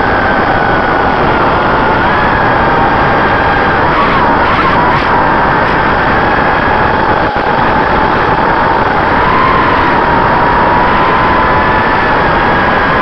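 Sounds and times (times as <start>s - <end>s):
drone motor whine: 0.0s - 13.0s
propeller wash rushing: 0.0s - 13.0s.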